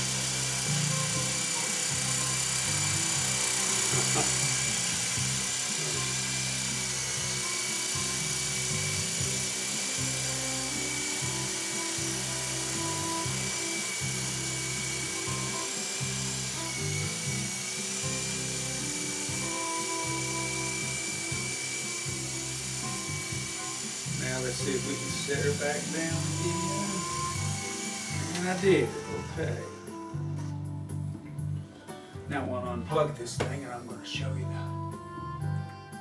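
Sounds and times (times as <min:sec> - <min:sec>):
rc helicopter motors whining: 0:00.0 - 0:30.7
music playing: 0:00.0 - 0:36.0.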